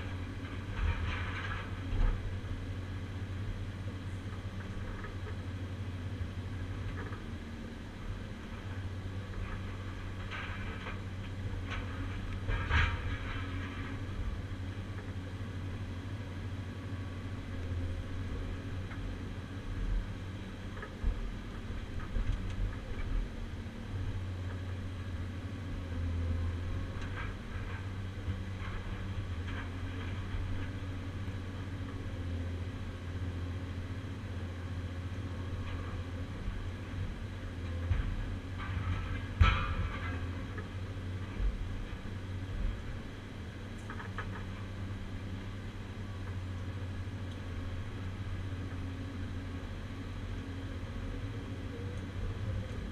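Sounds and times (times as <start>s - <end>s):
excavator engine and hydraulics: 0.0s - 52.9s.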